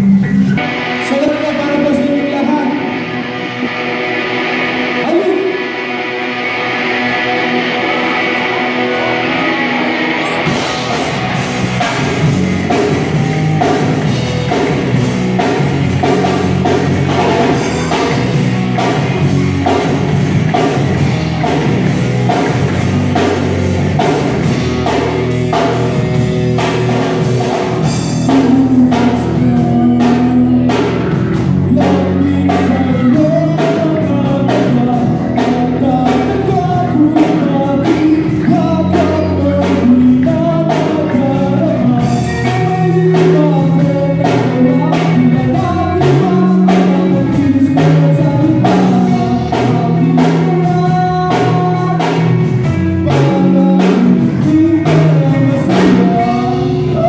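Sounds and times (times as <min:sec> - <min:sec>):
person singing: 0:00.0 - 0:25.8, 0:26.6 - 0:57.0
bass guitar: 0:00.0 - 0:57.0
electric guitars: 0:00.0 - 0:57.0
drum kit and cymbals: 0:09.6 - 0:57.0.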